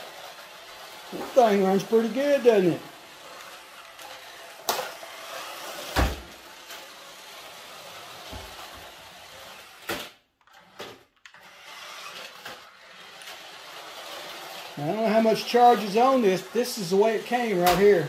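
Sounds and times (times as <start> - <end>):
toy car electric motor whirring: 0.0 - 18.0.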